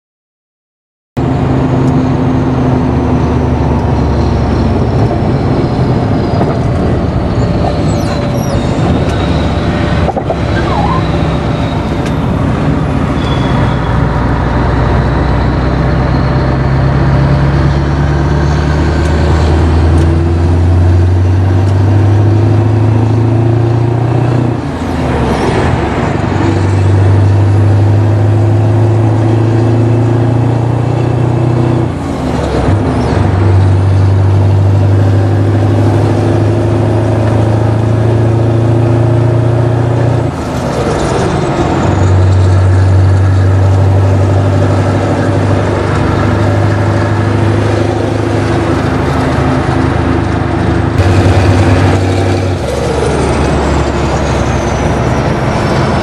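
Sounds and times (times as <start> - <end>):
truck engine accelerating: 1.2 - 56.0.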